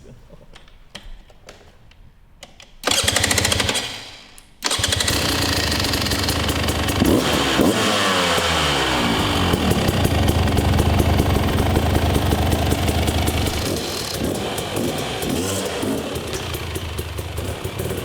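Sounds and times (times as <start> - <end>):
dirt bike engine starting and revving: 2.8 - 18.0.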